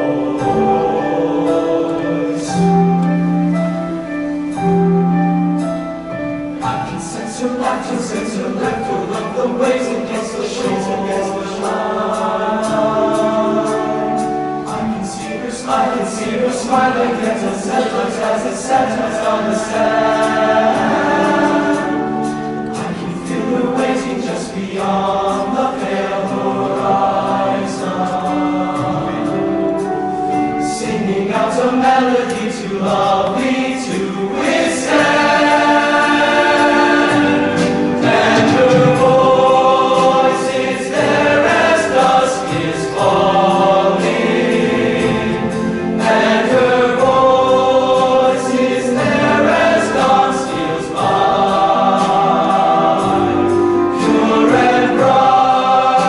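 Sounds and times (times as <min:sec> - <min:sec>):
male choir singing in harmony: 0:00.0 - 0:56.0.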